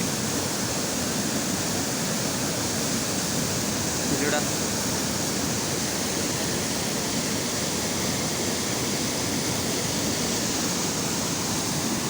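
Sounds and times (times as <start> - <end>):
running rainwater: 0.0 - 12.0.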